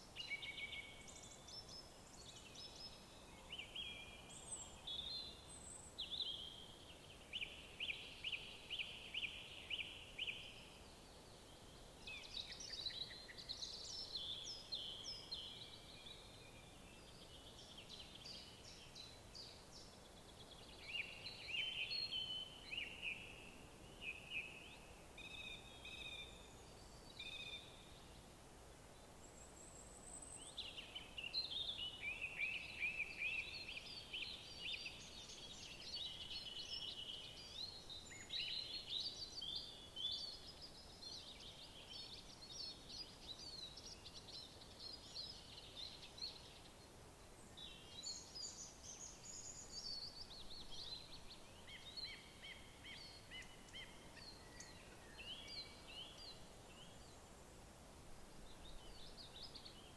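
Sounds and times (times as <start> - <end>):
songbirds singing: 0.0 - 57.5, 58.4 - 59.9
faint background hiss: 0.0 - 59.9.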